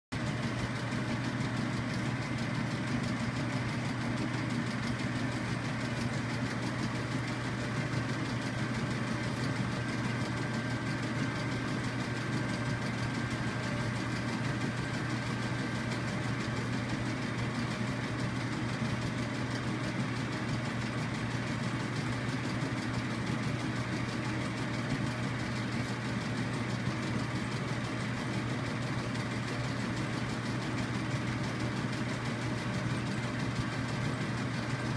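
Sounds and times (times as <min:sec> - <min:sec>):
projector motor and fan humming: 0:00.2 - 0:34.9.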